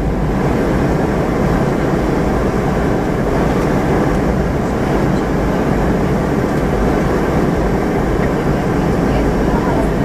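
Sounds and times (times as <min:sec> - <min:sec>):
airliner cabin noise: 0:00.0 - 0:10.0.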